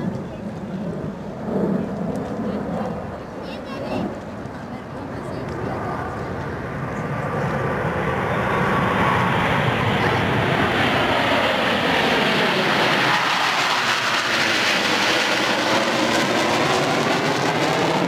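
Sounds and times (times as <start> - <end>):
jets roaring overhead: 0.0 - 18.0.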